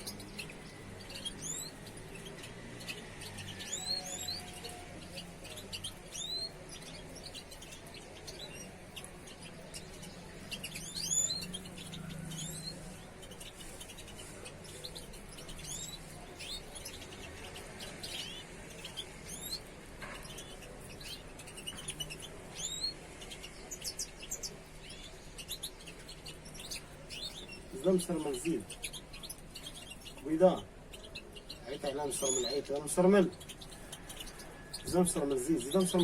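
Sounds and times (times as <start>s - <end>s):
songbirds chirping and twittering: 0.0s - 36.0s.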